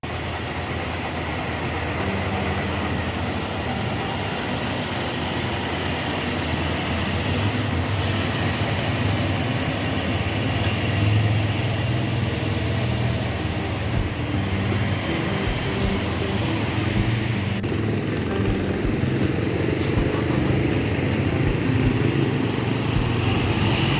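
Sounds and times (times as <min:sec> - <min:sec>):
coach diesel engines humming: 0:00.0 - 0:23.9.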